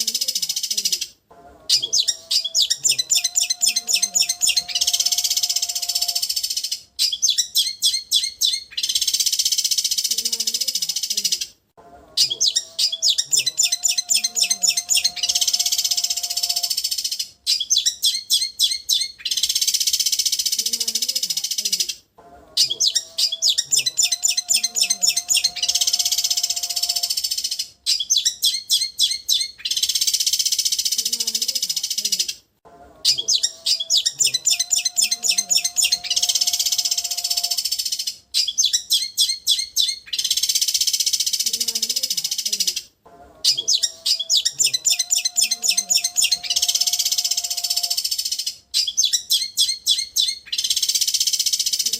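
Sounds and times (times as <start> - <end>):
bird trilling: 0.0 - 11.5, 12.1 - 32.4, 33.0 - 42.8, 43.4 - 51.9.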